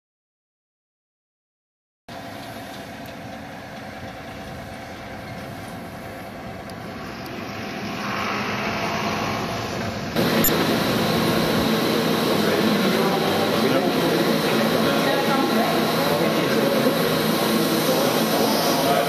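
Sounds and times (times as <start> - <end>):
drone of processing machinery: 2.1 - 19.0
engine running: 2.1 - 19.0.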